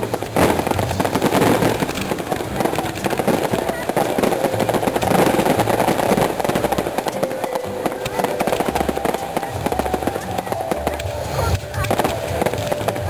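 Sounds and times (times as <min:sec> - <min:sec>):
fireworks booms: 0:00.0 - 0:13.0
fireworks crackling: 0:00.0 - 0:13.0.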